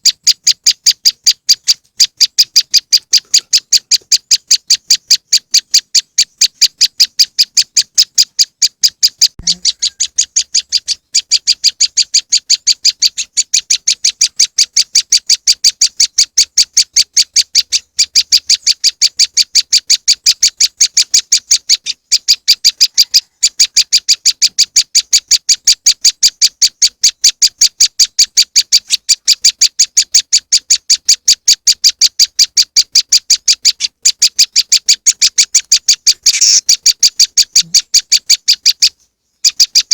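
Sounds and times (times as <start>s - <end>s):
bird high sharp chirps: 0.0s - 39.9s.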